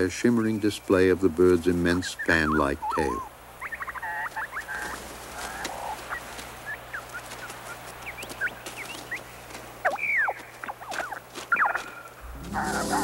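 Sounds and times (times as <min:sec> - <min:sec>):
lyrebird singing: 0:00.0 - 0:13.0.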